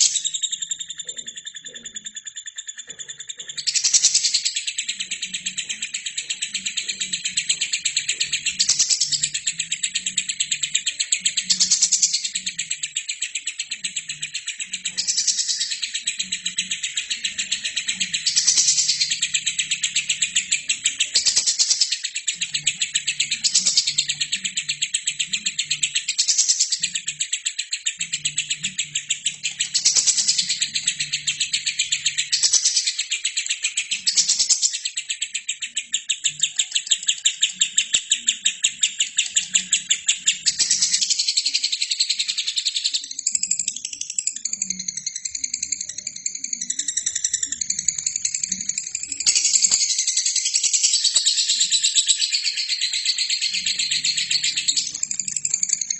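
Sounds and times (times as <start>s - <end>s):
lovebird chattering trill: 0.0s - 55.9s.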